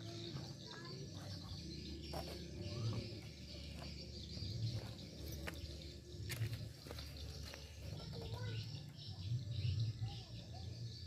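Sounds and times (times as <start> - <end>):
bird chirps: 0.0 - 11.0
insect hum: 0.0 - 11.0.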